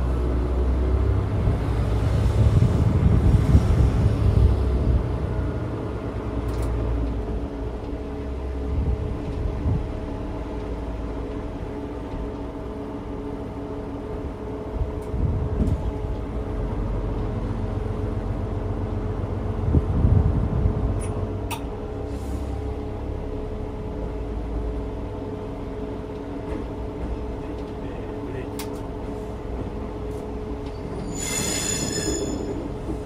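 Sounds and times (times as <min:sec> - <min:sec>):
railcar engine drone: 0:00.0 - 0:33.0.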